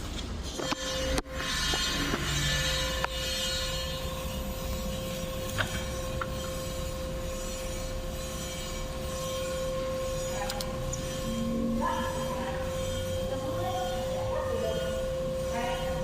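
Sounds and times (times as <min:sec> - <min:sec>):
metal lathe whining: 0:00.0 - 0:16.0.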